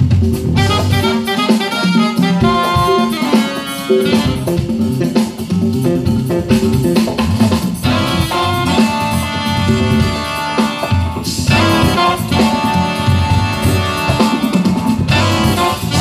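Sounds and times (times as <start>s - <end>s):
congas: 0.0s - 16.0s
drums: 0.0s - 16.0s
electric bass line: 0.0s - 16.0s.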